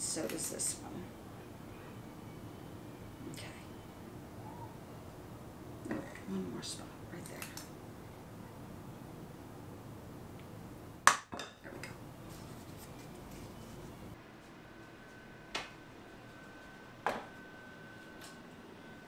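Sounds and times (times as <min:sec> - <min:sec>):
faint high hum: 0:00.0 - 0:19.0.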